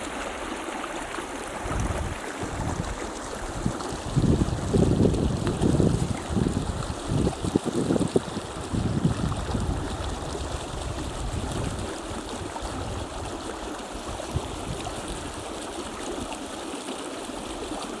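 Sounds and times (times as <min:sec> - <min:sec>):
creek rushing over rocks: 0:00.0 - 0:18.0
wind rumble on microphone: 0:01.6 - 0:16.3.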